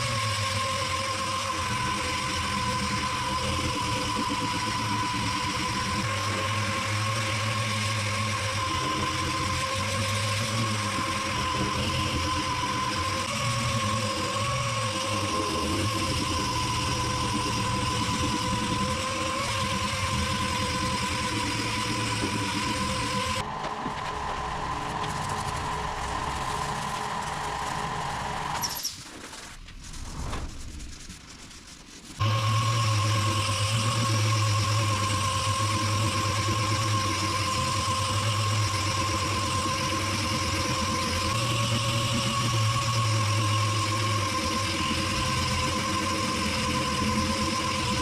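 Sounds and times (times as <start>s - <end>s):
sander whining: 0.0s - 30.0s, 30.6s - 48.0s.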